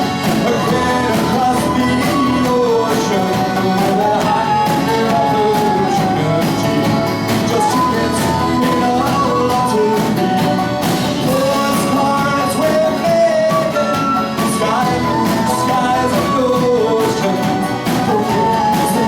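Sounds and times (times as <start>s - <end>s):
band playing instrumental music: 0.0s - 19.0s.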